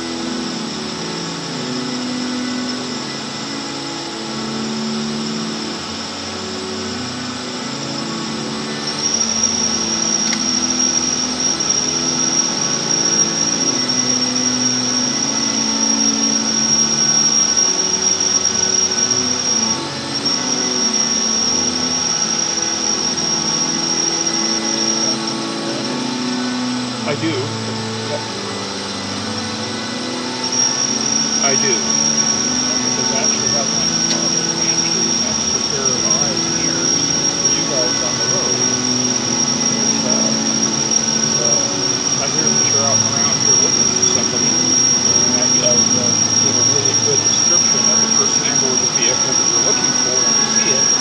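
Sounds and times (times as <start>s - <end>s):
high-pitched whine: 0.0s - 51.0s
low music from car stereo: 0.0s - 51.0s.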